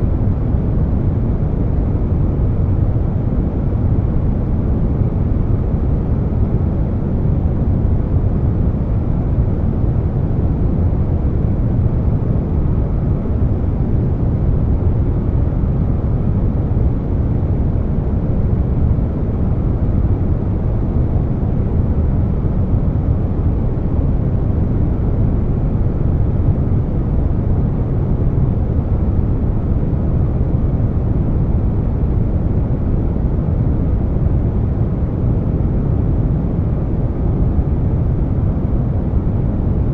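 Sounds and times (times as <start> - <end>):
air conditioner running: 0.0 - 39.9.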